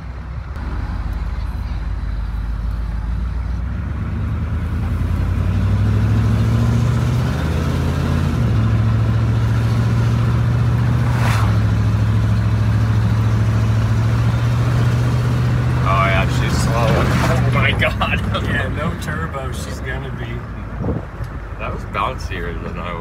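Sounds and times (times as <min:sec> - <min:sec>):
diesel engine accelerating: 0:00.0 - 0:23.0.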